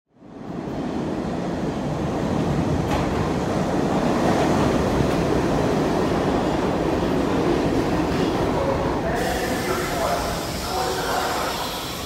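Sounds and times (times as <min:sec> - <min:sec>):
subway train rumbling on rails: 0:00.1 - 0:12.0.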